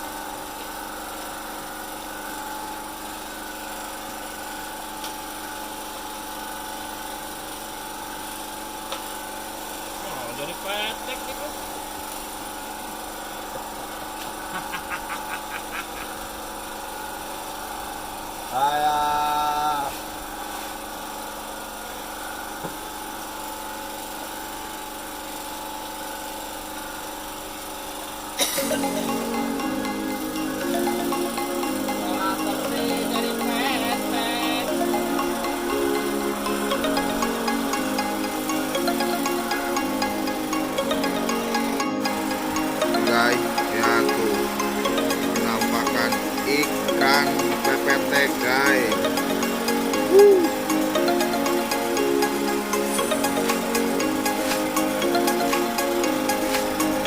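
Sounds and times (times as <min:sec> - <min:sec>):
small motor humming: 0:00.0 - 0:57.0.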